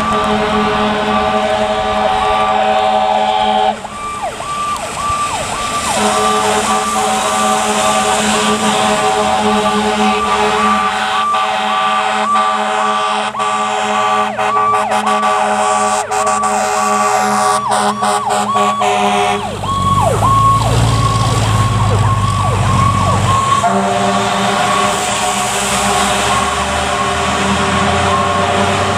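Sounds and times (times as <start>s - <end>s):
heavy engine rumble: 0.0s - 28.9s
siren yelping: 0.0s - 28.9s.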